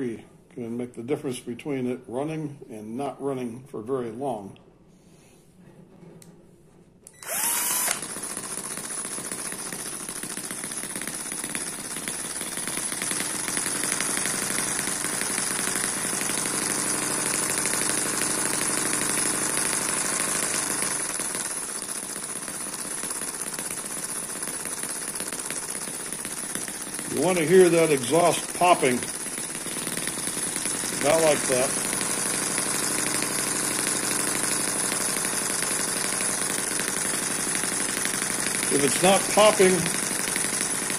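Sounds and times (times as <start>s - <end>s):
cordless drill spinning: 7.0s - 40.9s
model engine exhaust popping: 7.2s - 40.9s.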